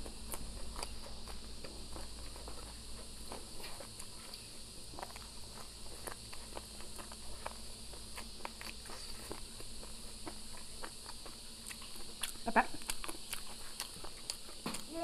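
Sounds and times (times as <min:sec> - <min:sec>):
chewing clicks and smacks: 0:00.0 - 0:14.9
insects droning: 0:00.0 - 0:15.0.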